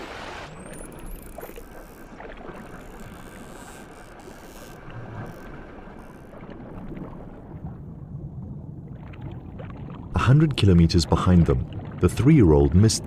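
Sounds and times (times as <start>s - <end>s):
seawater rushing and churning: 0.0s - 13.0s.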